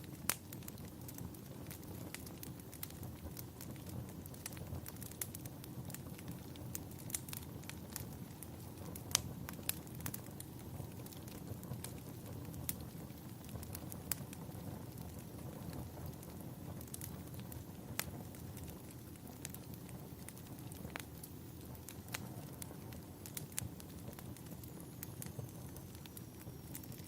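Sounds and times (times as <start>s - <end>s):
low rumble of burning: 0.0s - 27.0s
wood fire crackling and popping: 0.0s - 27.0s.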